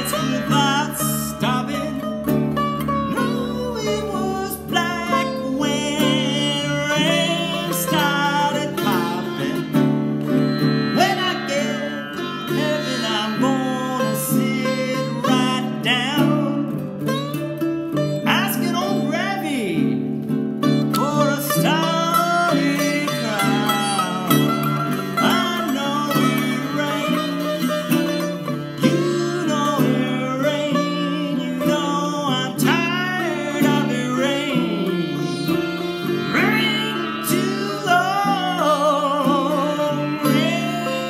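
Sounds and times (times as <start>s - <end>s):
man singing: 0.0s - 16.9s, 18.2s - 41.0s
slide sitar: 0.0s - 41.0s
strummed ukulele chords: 0.0s - 41.0s.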